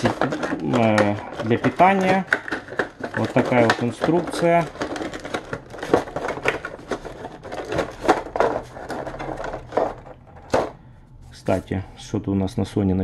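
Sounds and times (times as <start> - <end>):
plastic blister pack crinkling: 0.0 - 10.6.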